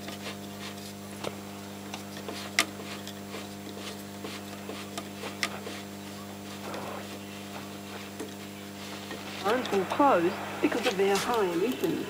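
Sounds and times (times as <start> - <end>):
radio speaker hum: 1.2 - 12.0.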